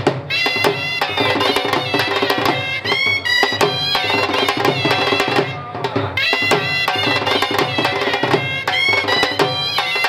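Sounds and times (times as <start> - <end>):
drum strokes: 0.0 - 10.0
double-reed pipes playing melody: 0.3 - 10.0.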